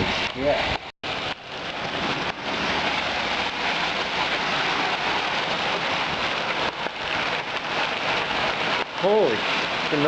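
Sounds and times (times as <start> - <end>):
hail and rain pounding: 0.0 - 10.0.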